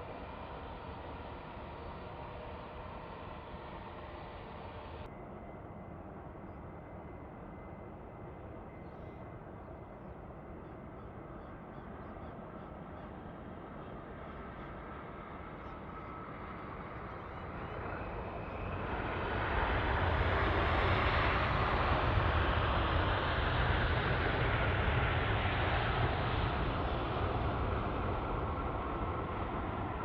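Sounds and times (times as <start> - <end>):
jet engines passing by: 0.0 - 30.0.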